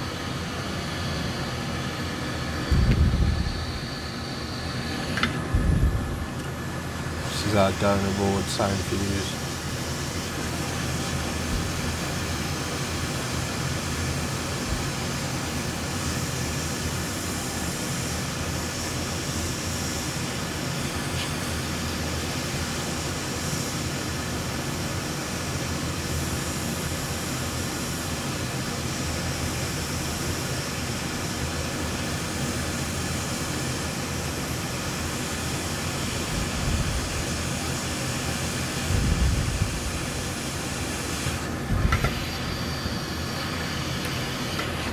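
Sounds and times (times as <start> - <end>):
fan blowing air: 0.0 - 44.9.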